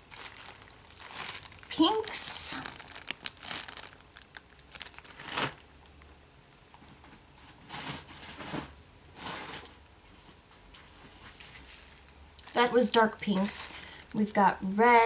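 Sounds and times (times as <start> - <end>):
plastic bags rustling: 0.0 - 6.0, 6.8 - 15.0.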